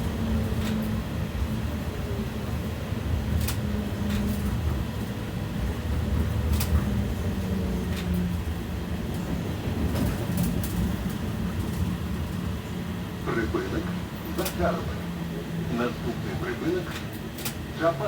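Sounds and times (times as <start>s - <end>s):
tram wheels rumbling: 0.0s - 18.0s.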